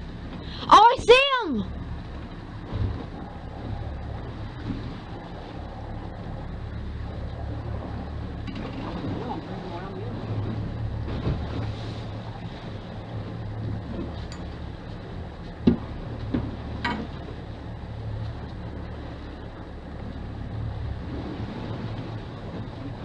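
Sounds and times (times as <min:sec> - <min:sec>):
boat engines droning: 0:00.0 - 0:23.0.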